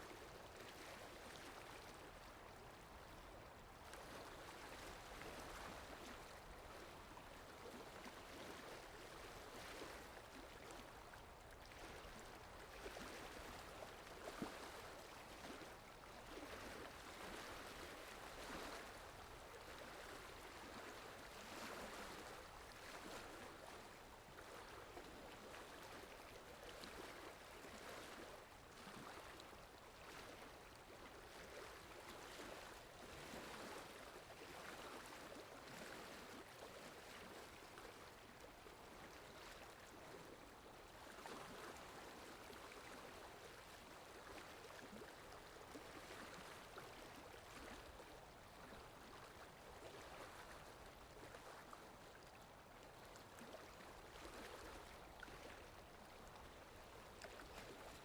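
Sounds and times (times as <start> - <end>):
flowing stream water: 0.0 - 58.0.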